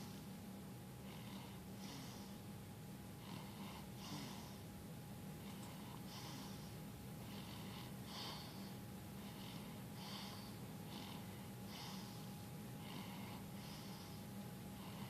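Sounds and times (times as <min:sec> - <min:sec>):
steady low hum: 0:00.0 - 0:15.0
person snoring softly: 0:01.0 - 0:02.4, 0:03.2 - 0:04.7, 0:05.4 - 0:15.0.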